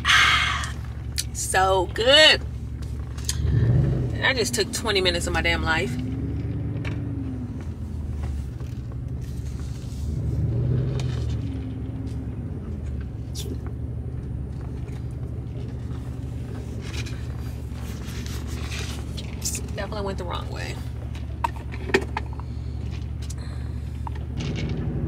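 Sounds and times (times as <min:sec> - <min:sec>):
car road noise rumble: 0:00.0 - 0:25.0.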